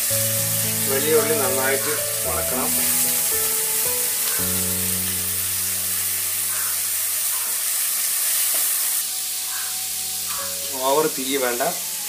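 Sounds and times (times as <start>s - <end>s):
background music with held notes: 0.0s - 7.3s, 9.0s - 12.0s
onions sizzling in hot oil: 0.0s - 12.0s.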